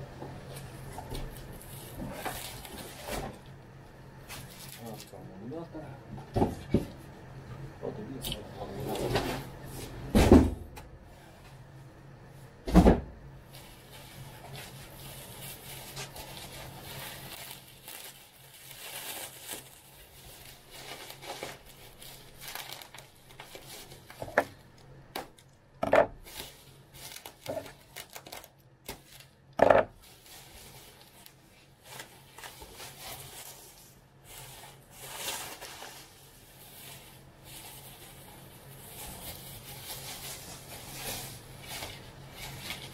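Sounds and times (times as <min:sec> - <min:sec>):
bubble wrap rustling and crinkling: 0:00.4 - 0:05.8, 0:13.4 - 0:25.6, 0:26.2 - 0:42.9.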